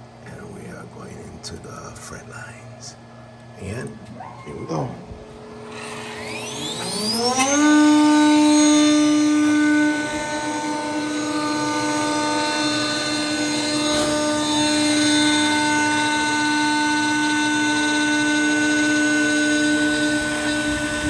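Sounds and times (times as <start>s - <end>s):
router spindle whine: 3.6s - 21.0s.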